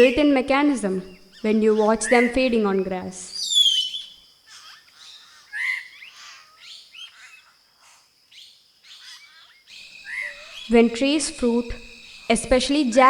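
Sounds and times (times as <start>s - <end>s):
birds chirping and whistling: 0.0s - 13.0s
faint high-pitched hum: 0.0s - 13.0s.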